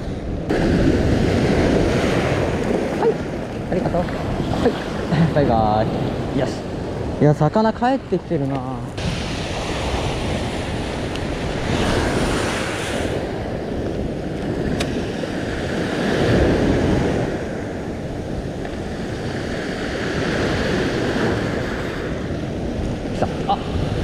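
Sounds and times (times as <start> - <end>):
sea surf washing: 0.0 - 24.0
wind buffeting microphone: 0.0 - 24.0.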